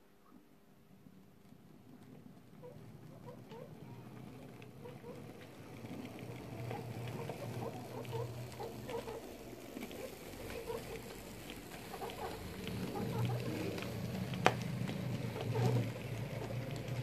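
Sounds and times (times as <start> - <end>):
wheels clicking over rail joints: 1.0 - 17.0
model train humming: 2.1 - 17.0.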